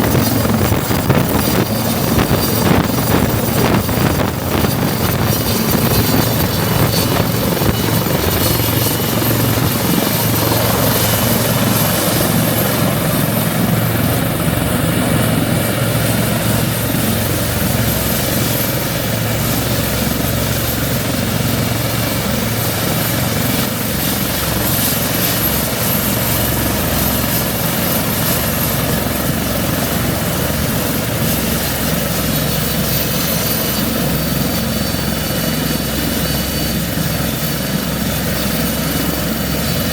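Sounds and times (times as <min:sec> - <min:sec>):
helicopter rotor and engine noise: 0:00.0 - 0:39.9
high turbine whine: 0:00.0 - 0:39.9.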